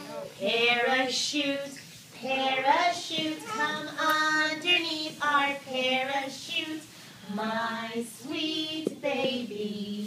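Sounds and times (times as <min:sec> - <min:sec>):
women singing a children's song: 0:00.4 - 0:10.0.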